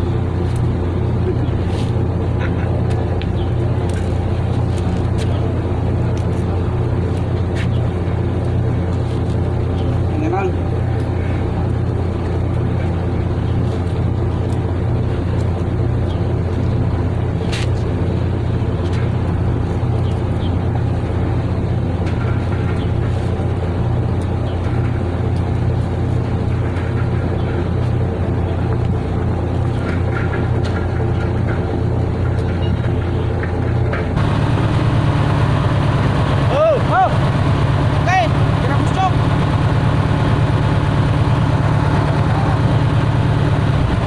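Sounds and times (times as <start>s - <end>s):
boat engine drone: 0.0s - 44.0s.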